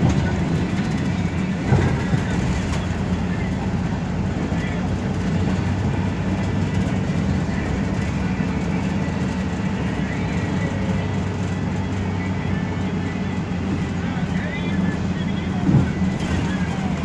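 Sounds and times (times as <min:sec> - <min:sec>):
bus engine drone: 0:00.0 - 0:17.0
tyre and road noise: 0:00.0 - 0:17.0.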